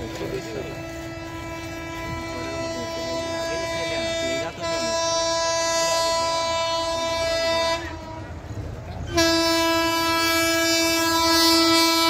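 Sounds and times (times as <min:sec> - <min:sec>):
train horn blowing: 0:00.0 - 0:12.0.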